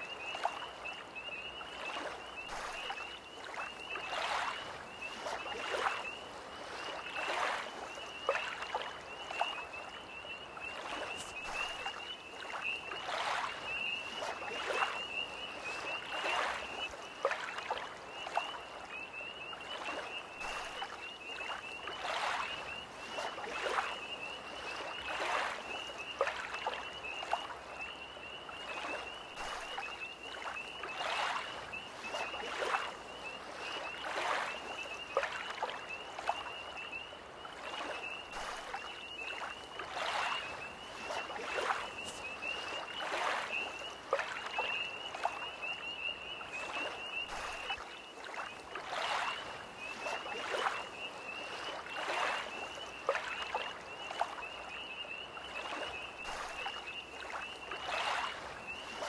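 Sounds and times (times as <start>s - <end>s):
lake waves lapping at shore: 0.0s - 59.0s
tree frogs chorus: 0.0s - 59.0s.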